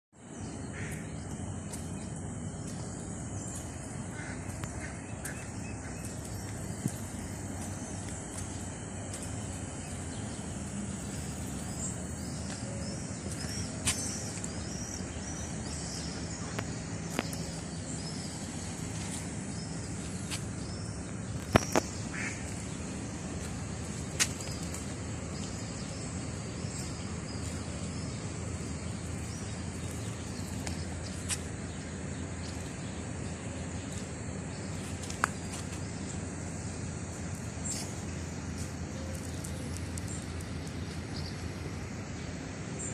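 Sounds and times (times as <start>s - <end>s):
steady outdoor hum: 0.1s - 42.9s.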